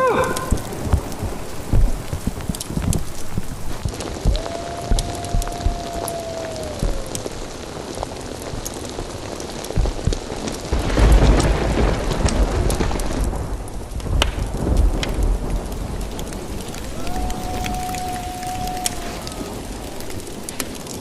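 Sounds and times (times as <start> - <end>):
heavy rain: 0.0 - 21.0
raindrops ticking sharply: 0.0 - 21.0
thunder rumbling: 0.0 - 21.0.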